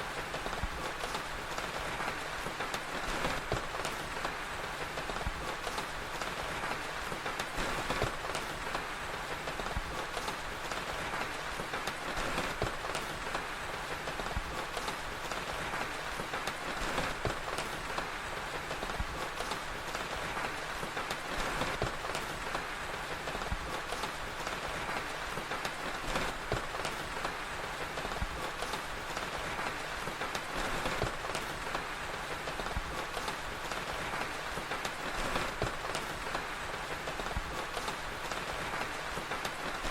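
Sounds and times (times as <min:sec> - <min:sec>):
fire crackling: 0:00.0 - 0:39.9
rainfall hiss: 0:00.0 - 0:39.9.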